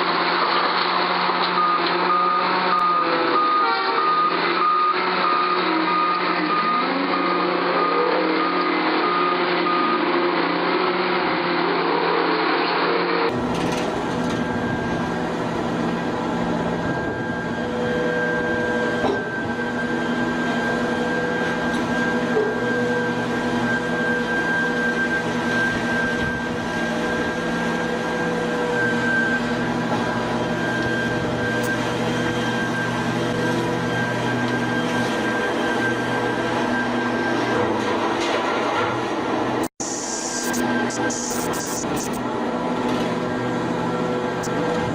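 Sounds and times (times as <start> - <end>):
heavy machinery humming and whining: 0.0 - 44.9.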